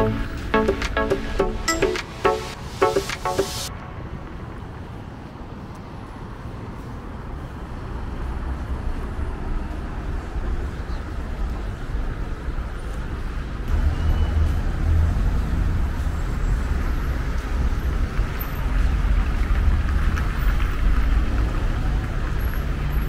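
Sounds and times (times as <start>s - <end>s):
road traffic rumble: 2.1s - 23.0s.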